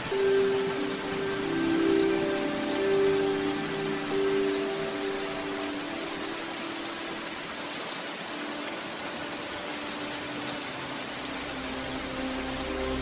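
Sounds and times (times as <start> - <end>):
rain falling on a surface: 0.0 - 13.0.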